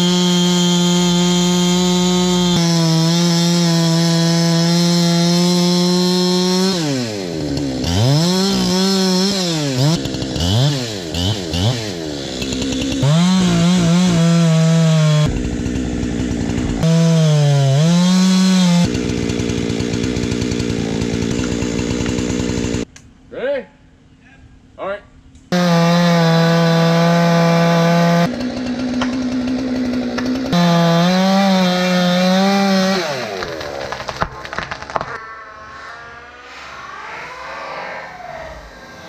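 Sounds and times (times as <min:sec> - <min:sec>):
two-stroke chainsaw revving: 0:00.0 - 0:22.9, 0:25.5 - 0:35.8.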